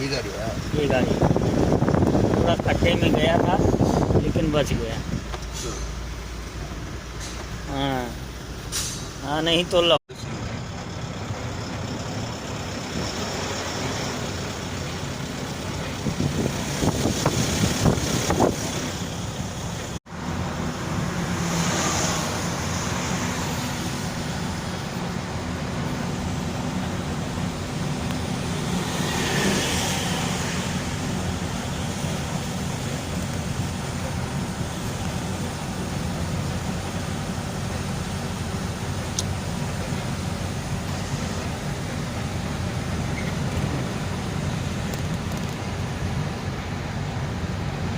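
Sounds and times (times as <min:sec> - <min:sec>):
road traffic: 0:00.0 - 0:47.9.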